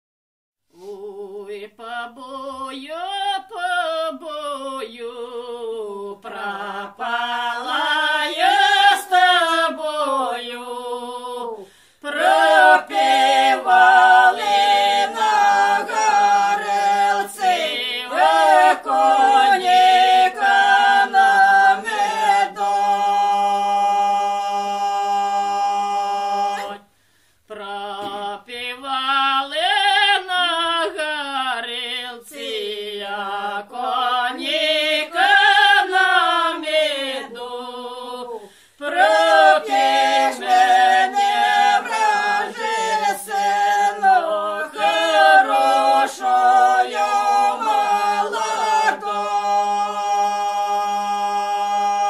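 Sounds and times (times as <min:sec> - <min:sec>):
women singing a cappella: 0:00.7 - 0:52.0.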